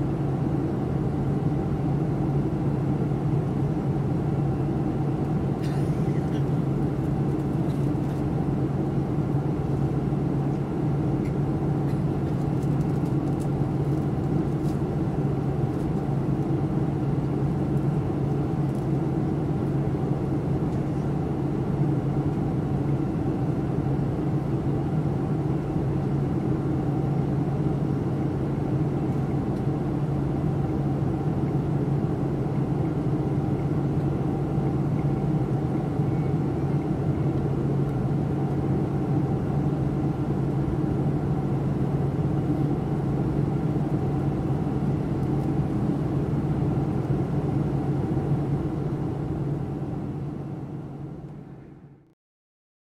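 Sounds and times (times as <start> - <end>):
airliner cabin engine drone: 0.0 - 52.2.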